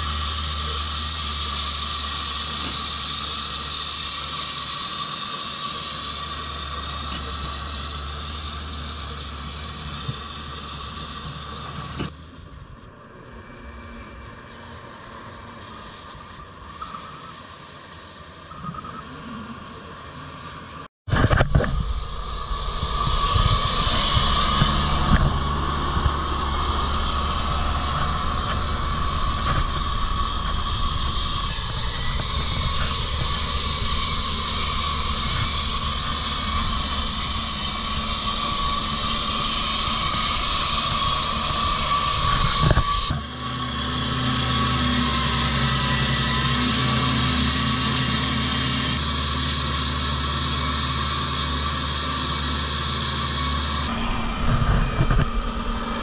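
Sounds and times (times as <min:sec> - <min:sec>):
concrete saw engine drone: 0:00.0 - 0:56.0
saw blade whining: 0:00.0 - 0:56.0.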